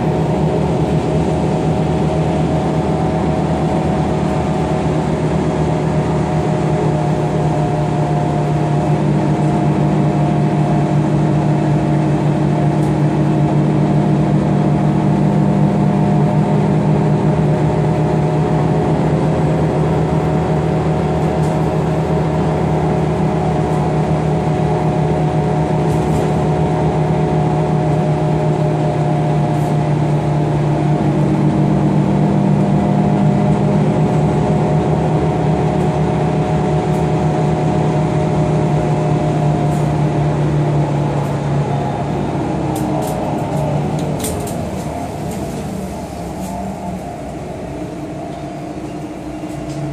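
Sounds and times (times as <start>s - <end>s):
bus engine humming: 0.0s - 49.9s
road noise: 0.0s - 49.9s.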